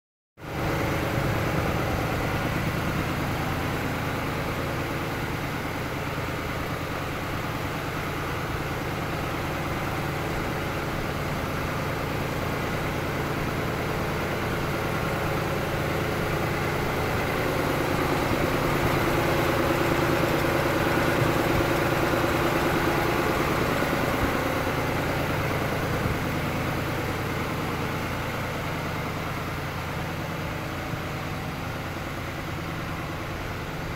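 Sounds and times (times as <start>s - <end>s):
tractor engine running: 0.4s - 33.9s.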